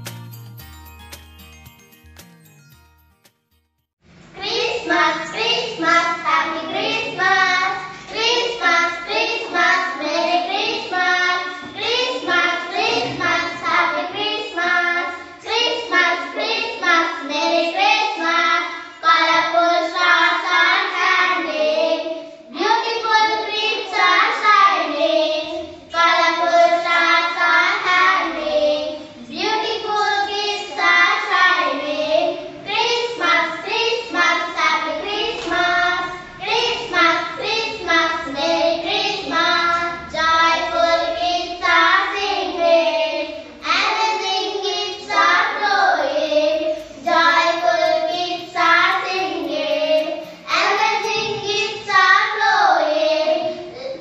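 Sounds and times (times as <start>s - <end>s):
girls singing together: 4.4s - 54.0s.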